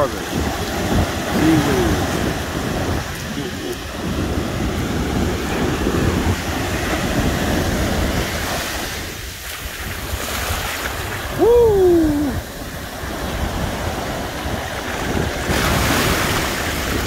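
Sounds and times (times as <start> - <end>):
surf washing up beach: 0.0 - 17.0
wind on microphone: 0.0 - 17.0.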